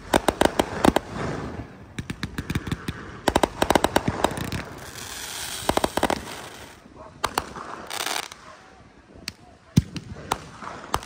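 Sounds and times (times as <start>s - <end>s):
fireworks popping and cracking: 0.0s - 8.4s, 9.2s - 11.0s.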